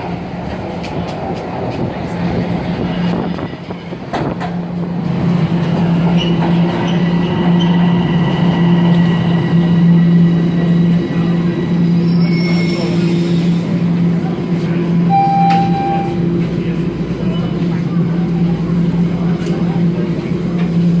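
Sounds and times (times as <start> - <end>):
subway train motor hum: 0.0 - 21.0
track noise: 0.0 - 21.0.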